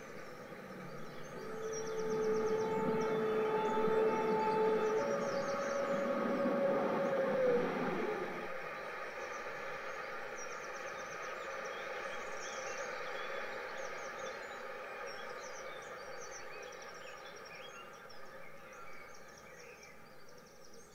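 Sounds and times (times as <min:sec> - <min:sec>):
model train running on track: 0:00.0 - 0:18.1.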